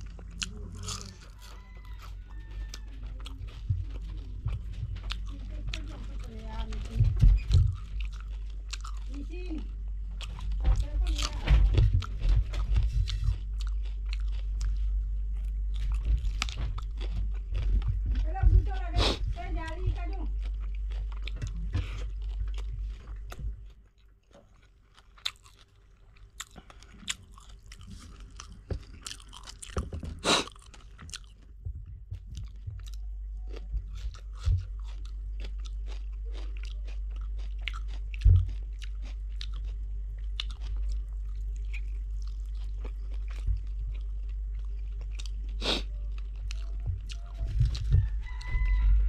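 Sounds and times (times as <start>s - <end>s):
chewing and mouth smacks: 0.0s - 18.2s, 19.6s - 31.5s, 32.2s - 48.7s
steady low hum: 0.0s - 49.0s.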